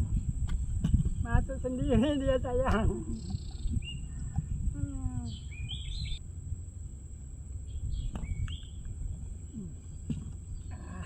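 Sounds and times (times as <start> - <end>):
birds chirping: 0.0 - 11.0
low rumbling background: 0.0 - 11.0.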